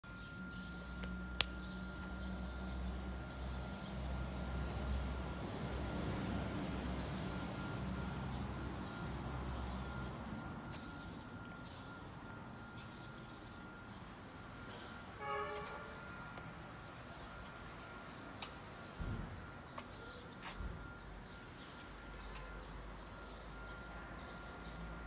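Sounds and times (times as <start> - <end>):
birds chirping: 0.1 - 25.0.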